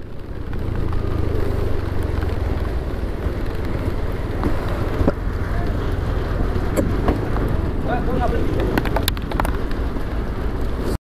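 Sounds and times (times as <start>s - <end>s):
scooter engine: 0.0s - 10.4s.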